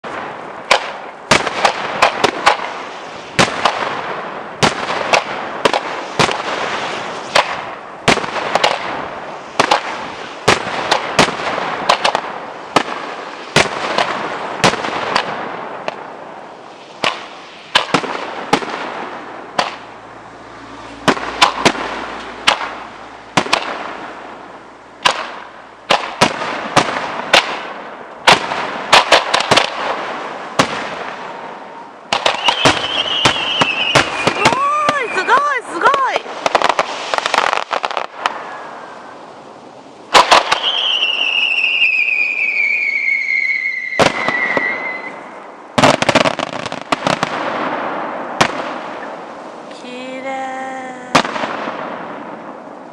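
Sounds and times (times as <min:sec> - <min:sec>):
fireworks crackling: 0:00.0 - 0:52.9
firework shells bursting: 0:00.1 - 0:31.4, 0:32.1 - 0:38.5, 0:40.0 - 0:49.8.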